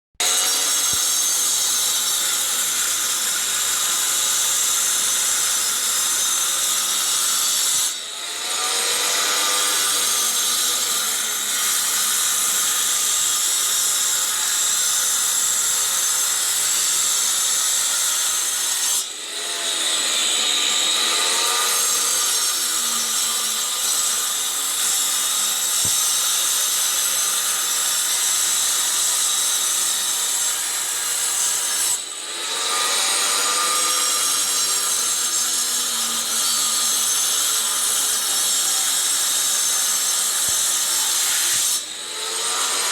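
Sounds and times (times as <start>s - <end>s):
power grinder cutting plastic pipe: 0.2s - 42.9s.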